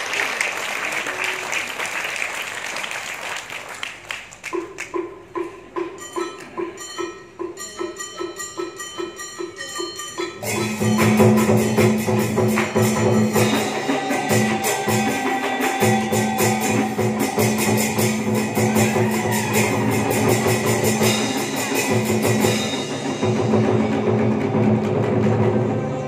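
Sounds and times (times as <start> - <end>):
traditional ensemble with drums: 4.3 - 26.0.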